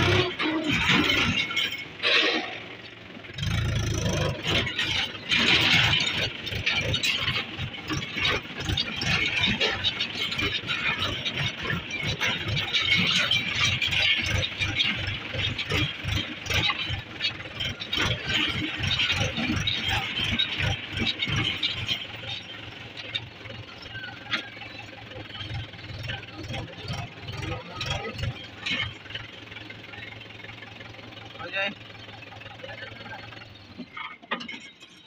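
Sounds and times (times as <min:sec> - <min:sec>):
tractor diesel engine idling: 0:00.0 - 0:35.0.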